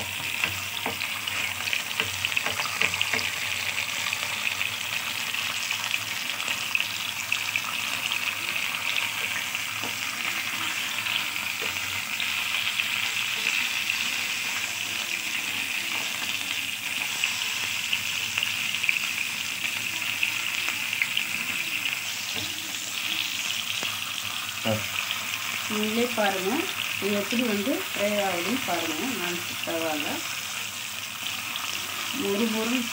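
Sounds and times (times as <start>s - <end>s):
fish frying in sizzling oil: 0.0s - 32.9s.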